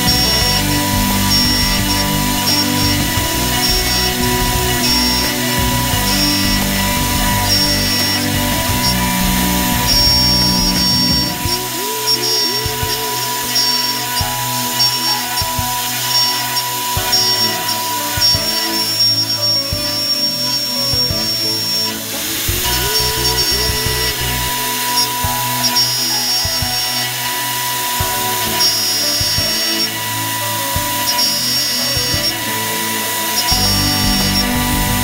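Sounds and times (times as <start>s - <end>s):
background music: 0.0s - 35.0s
cnc milling machine cutting steel: 0.0s - 35.0s.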